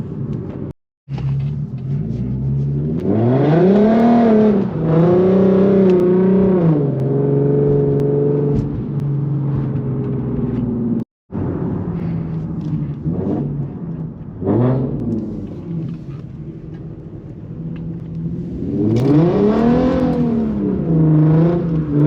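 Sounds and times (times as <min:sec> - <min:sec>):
car engine revving: 0:00.3 - 0:22.0.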